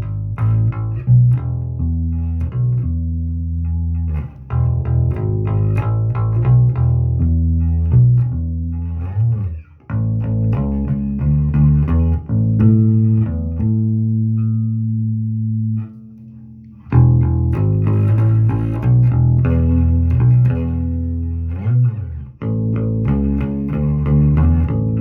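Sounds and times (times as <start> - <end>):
electric bass guitar playing: 0.0 - 25.0.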